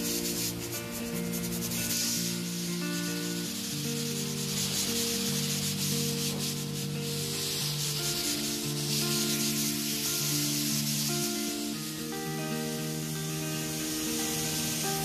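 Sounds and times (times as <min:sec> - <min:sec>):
blow dryer blowing air: 0:00.0 - 0:15.0
slow background music: 0:00.0 - 0:15.0.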